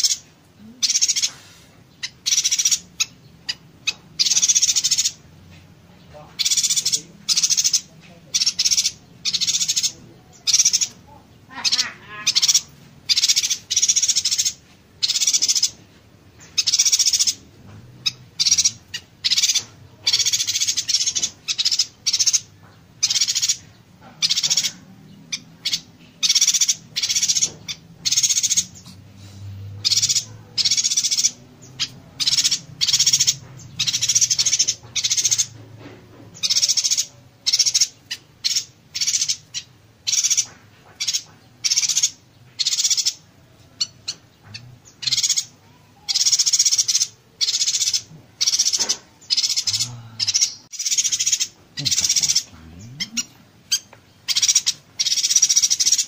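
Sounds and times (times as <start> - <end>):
bird high-pitched chattering: 0.0 - 29.1, 29.7 - 56.0.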